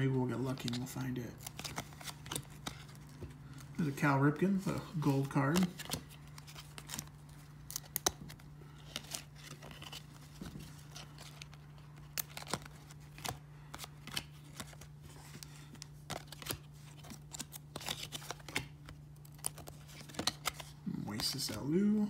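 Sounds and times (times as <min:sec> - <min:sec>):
cards being flipped by hand: 0:00.4 - 0:04.0, 0:04.6 - 0:21.7.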